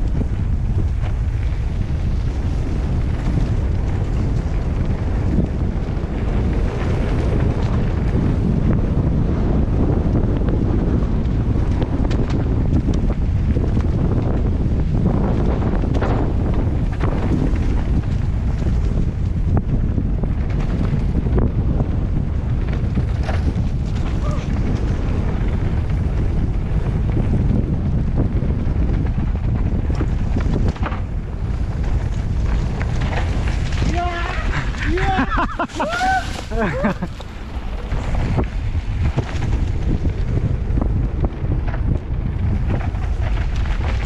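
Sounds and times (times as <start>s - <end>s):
bike ticks and rattles: 0.0s - 44.0s
wind buffeting microphone: 0.0s - 44.0s.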